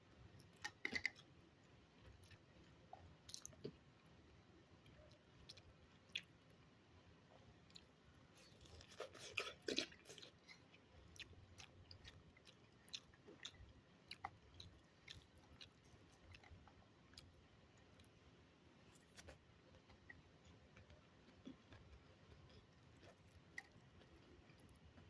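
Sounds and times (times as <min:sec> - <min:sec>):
chewing food: 0:01.9 - 0:03.9, 0:04.8 - 0:06.6, 0:07.3 - 0:18.2, 0:18.9 - 0:25.0.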